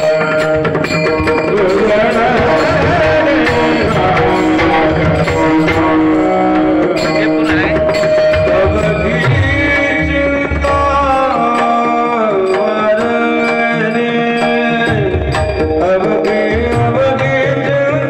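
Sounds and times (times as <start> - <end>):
hand drum beats: 0.0 - 18.0.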